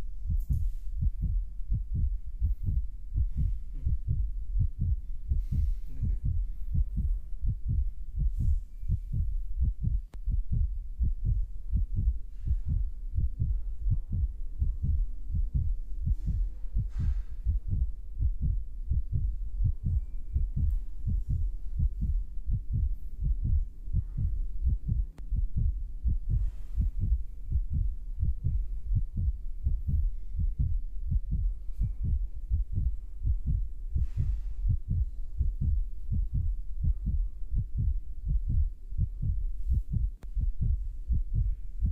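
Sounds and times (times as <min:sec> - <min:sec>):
low dull thumping: 0:00.0 - 0:41.9.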